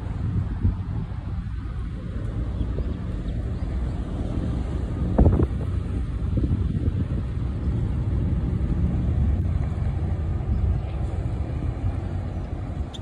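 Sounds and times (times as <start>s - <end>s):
boat engines rumbling: 0.0s - 13.0s.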